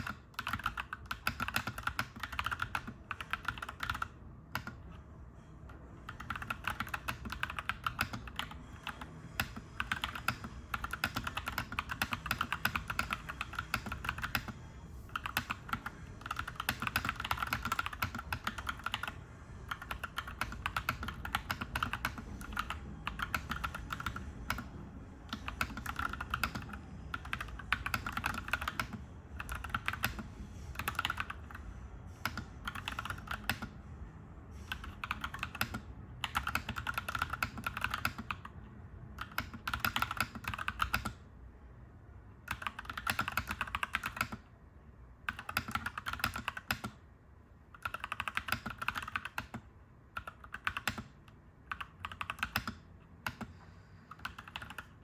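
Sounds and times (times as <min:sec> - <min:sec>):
mechanical keyboard typing: 0:00.0 - 0:05.0, 0:06.0 - 0:31.6, 0:32.2 - 0:33.8, 0:34.7 - 0:38.5, 0:39.1 - 0:41.2, 0:42.5 - 0:44.4, 0:45.2 - 0:47.0, 0:47.7 - 0:53.5, 0:54.1 - 0:55.0.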